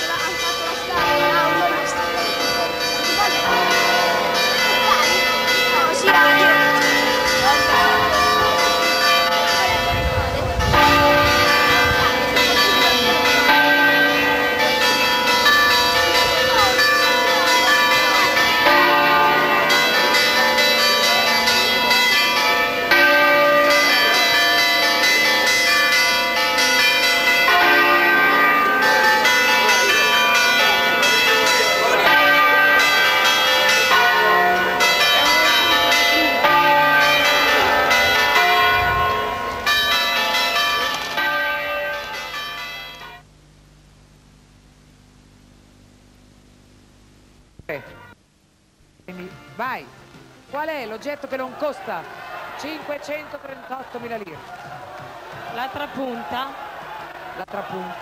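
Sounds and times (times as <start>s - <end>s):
church bells pealing: 0.0s - 43.2s, 47.7s - 48.2s, 49.1s - 51.8s.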